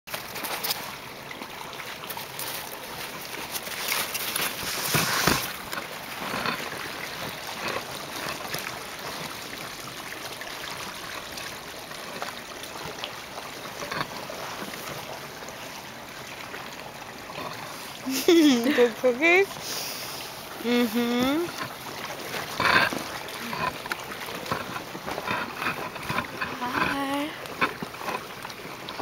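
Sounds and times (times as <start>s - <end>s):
water rushing under ice: 0.1s - 29.0s.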